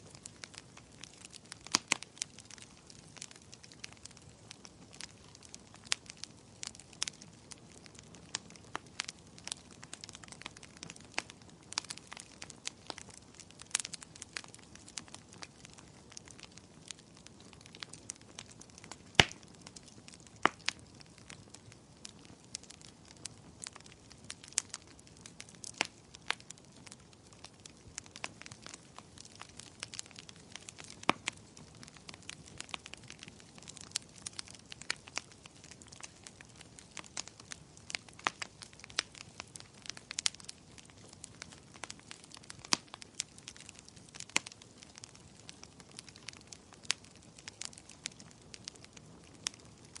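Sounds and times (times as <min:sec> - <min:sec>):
firewood crackling and popping: 0:00.0 - 0:50.0
low steady fire hiss: 0:00.0 - 0:50.0.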